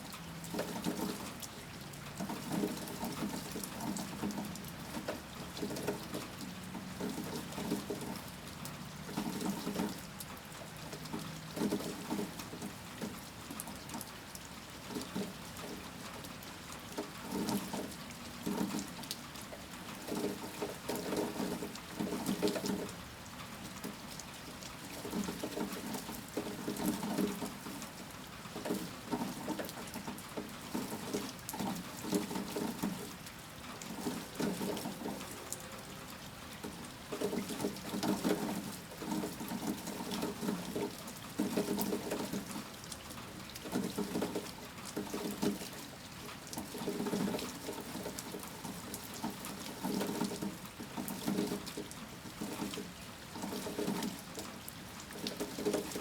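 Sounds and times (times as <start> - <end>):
heavy rain splashing: 0.1 - 56.0.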